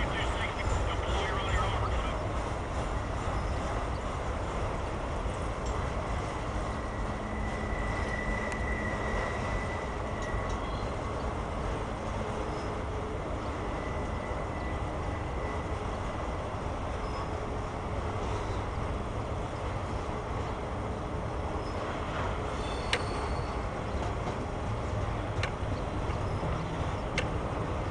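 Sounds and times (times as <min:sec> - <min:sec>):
train wheels rolling on rail: 0:00.0 - 0:27.9.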